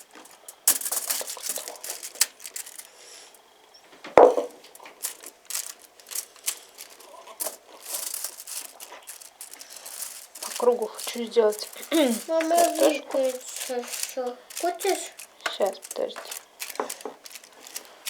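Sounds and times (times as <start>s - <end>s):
food wrapping crinkling: 0.0s - 18.0s.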